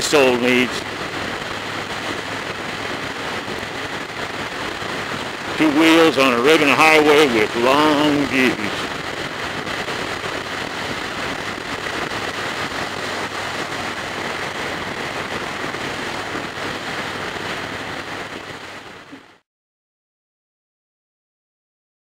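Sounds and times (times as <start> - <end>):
motorcycle engine drone: 0.0 - 19.4
steady high whine: 0.0 - 19.4
wind rushing over microphone: 0.0 - 19.4.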